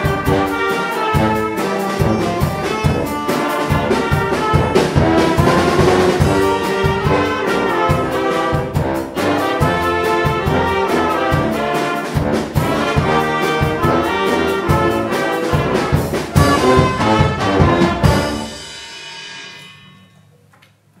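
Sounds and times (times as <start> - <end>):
wind band playing: 0.0 - 18.8
drum kit beat: 0.0 - 19.8.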